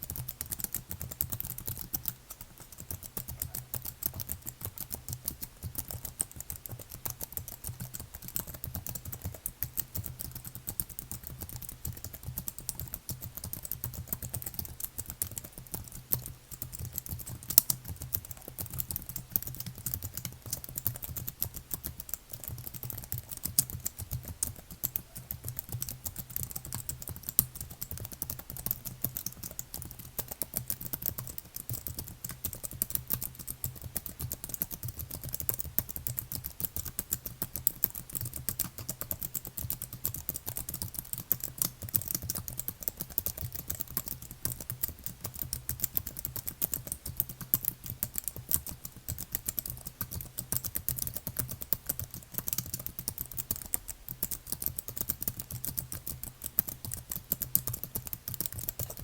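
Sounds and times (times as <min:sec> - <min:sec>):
faint low hum: 0:00.0 - 0:59.0
keyboard typing: 0:00.0 - 0:59.0.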